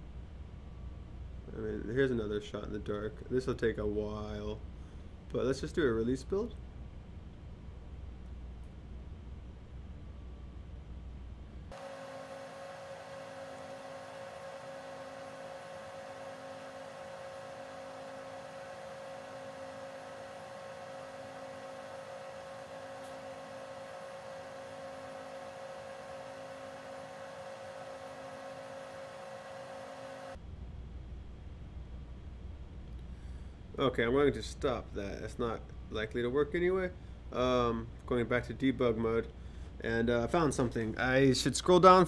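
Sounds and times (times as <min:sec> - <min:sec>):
electrical hum with whine: 0:00.0 - 0:42.0.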